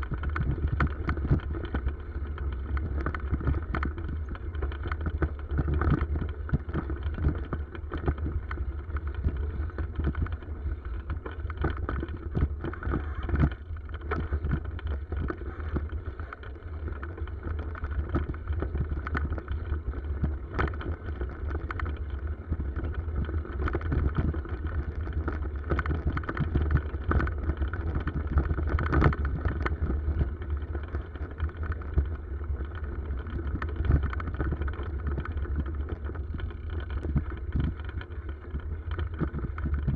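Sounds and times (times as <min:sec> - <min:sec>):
bicycle tyre noise: 0:00.0 - 0:39.9.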